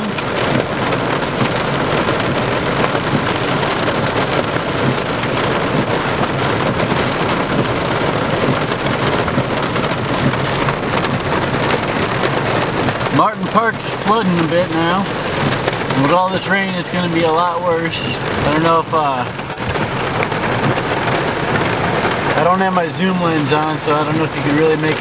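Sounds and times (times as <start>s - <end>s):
hail falling: 0.0s - 25.0s
heavy rain pouring: 0.0s - 25.0s.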